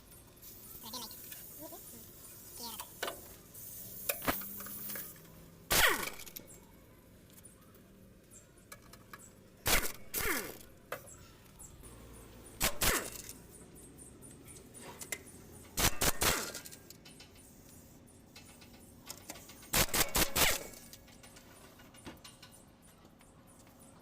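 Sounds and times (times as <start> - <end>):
workshop background: 0.0 - 24.0.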